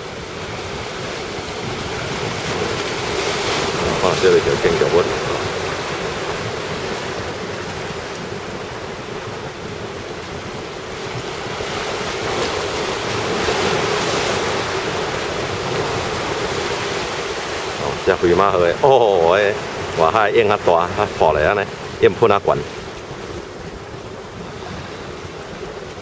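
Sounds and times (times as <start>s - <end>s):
rough sea waves breaking: 0.0s - 26.0s
wind buffeting microphone: 0.0s - 26.0s.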